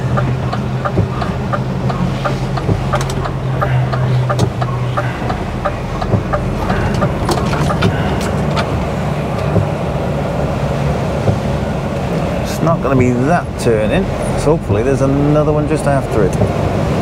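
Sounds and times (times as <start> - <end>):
rain ticking on windscreen: 0.0 - 14.7, 15.7 - 17.0
lorry engine droning: 0.0 - 17.0.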